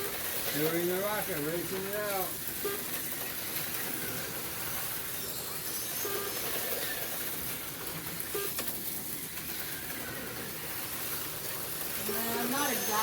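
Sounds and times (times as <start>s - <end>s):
slot car motors whirring: 0.0s - 13.0s.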